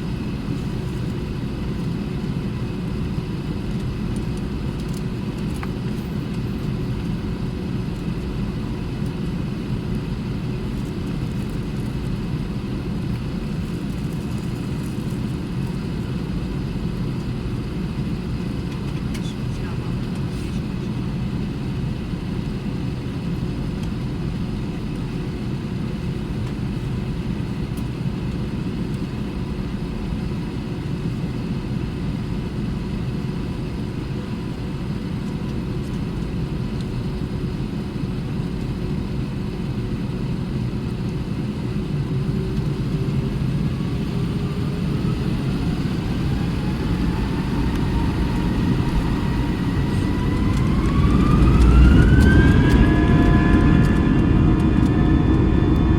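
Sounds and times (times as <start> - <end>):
airplane cabin engine rumble: 0.0 - 55.9
jet engines spooling up whine: 0.0 - 55.9.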